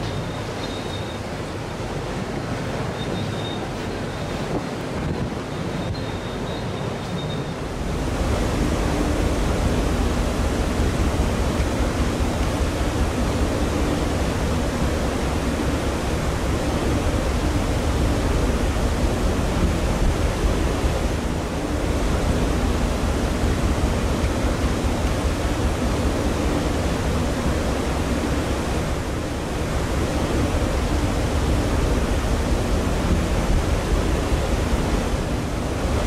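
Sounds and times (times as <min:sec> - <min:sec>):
wind and sea rushing: 0:00.0 - 0:36.0.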